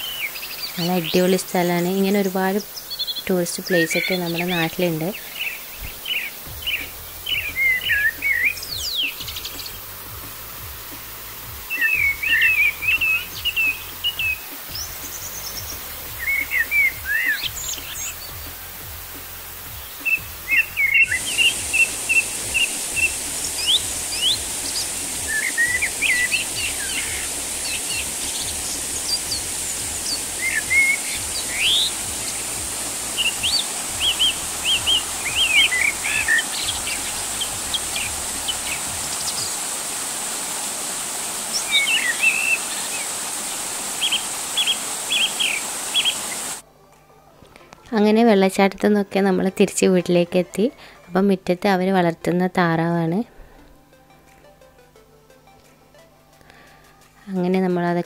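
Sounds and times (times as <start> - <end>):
small birds chirping: 0.0 - 46.6
small waterfall rushing: 0.0 - 46.6.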